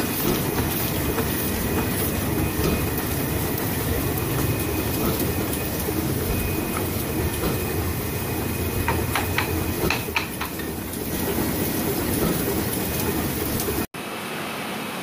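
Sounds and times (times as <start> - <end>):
printing press running: 0.0 - 13.9.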